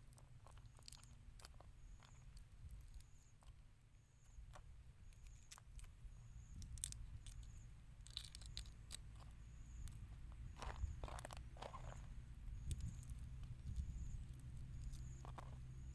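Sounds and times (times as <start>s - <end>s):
low steady rumble: 0.0s - 15.9s
shrimp shells being peeled: 0.1s - 3.6s, 4.2s - 10.0s, 10.6s - 15.6s.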